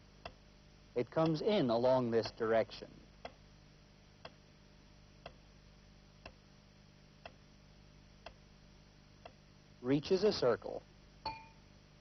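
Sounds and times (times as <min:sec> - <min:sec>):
steady low hum and hiss: 0:00.0 - 0:12.0.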